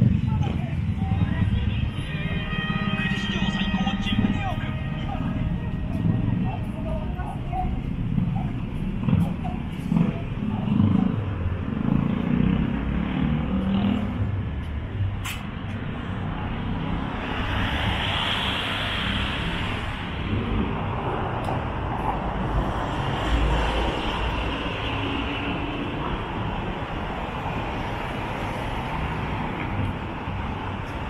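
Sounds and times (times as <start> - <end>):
street traffic rumble: 0.0 - 31.0
vehicles passing: 0.0 - 31.0.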